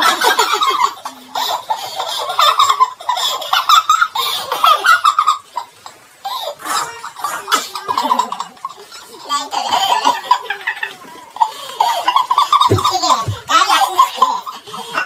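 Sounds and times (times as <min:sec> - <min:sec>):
boys laughing: 0:00.0 - 0:15.0.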